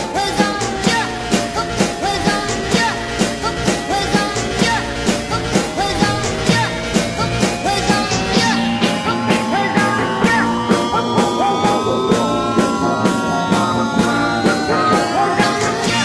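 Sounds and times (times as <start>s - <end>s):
rock music with steady beat: 0.0s - 16.0s.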